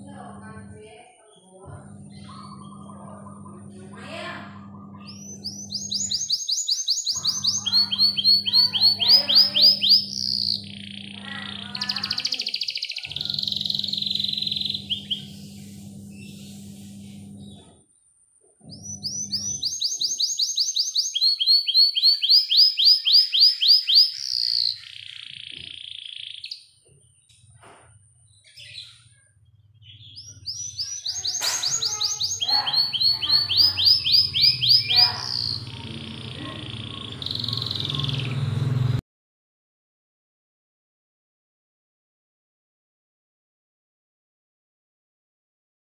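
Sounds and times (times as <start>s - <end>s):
canary singing trills: 0.0s - 17.8s, 18.6s - 27.5s, 28.2s - 39.0s.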